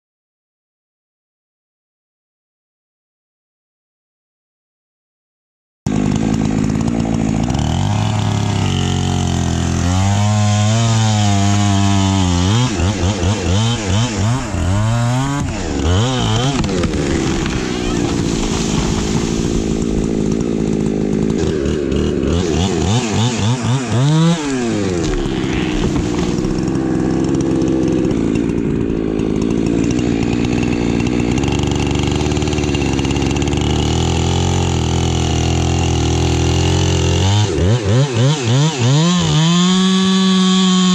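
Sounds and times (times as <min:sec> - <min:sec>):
chainsaw cutting wood: 0:05.9 - 0:40.9.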